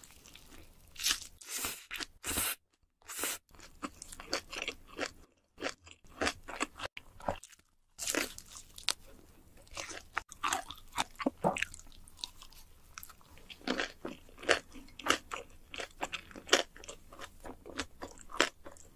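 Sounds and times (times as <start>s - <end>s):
crunching crisp food: 0.0s - 2.4s, 3.5s - 18.9s
soft chewing: 3.5s - 18.9s.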